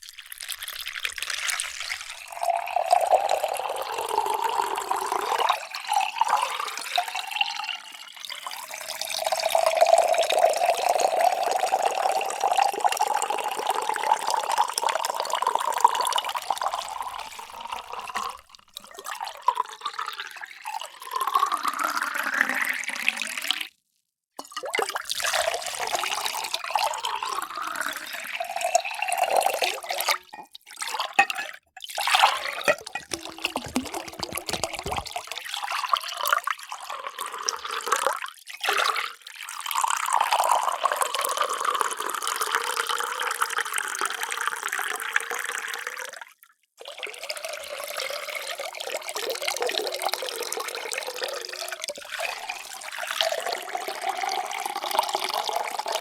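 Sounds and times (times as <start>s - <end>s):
water pouring into vessels: 0.0s - 23.7s, 24.4s - 46.2s, 46.8s - 56.0s.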